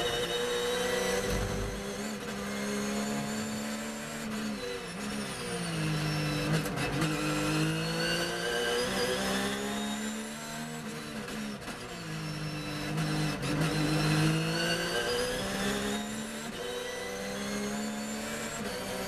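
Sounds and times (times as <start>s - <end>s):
race car engine: 0.0s - 19.0s.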